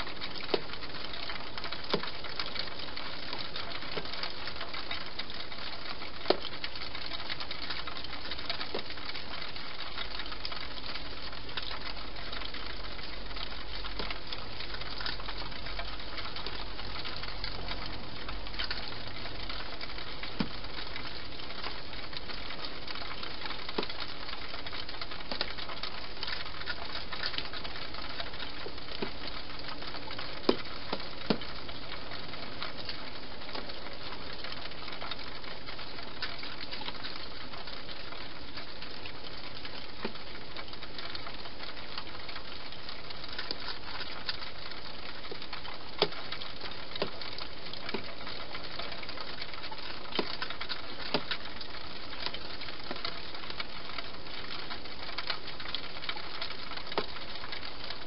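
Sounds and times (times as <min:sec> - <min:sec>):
hedgehog feeding clicks: 0:00.0 - 0:58.0.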